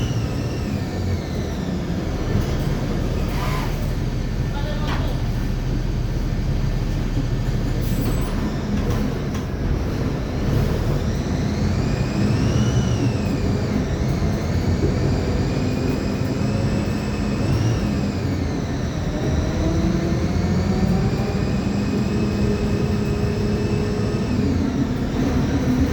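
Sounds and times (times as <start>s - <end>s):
bus diesel engine rumbling: 0.0s - 25.9s
differential gear whine: 0.0s - 25.9s.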